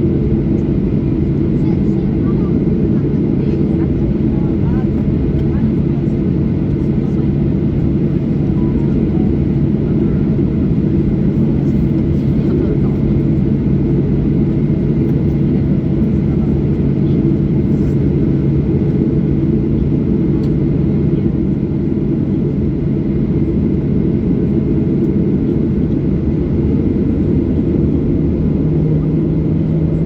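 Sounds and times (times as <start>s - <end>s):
jet engine hum: 0.0s - 30.0s.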